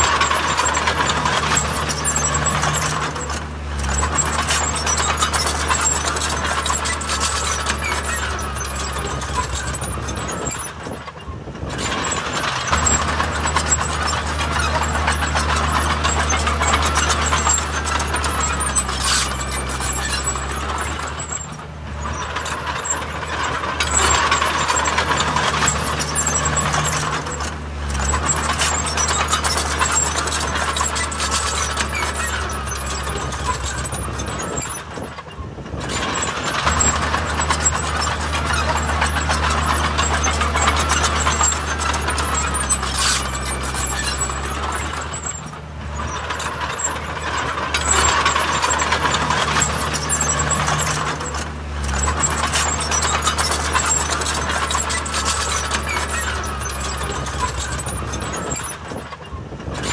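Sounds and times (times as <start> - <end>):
heavy diesel machinery engine: 0.0 - 59.9
mechanical rattling and clatter: 0.0 - 59.9.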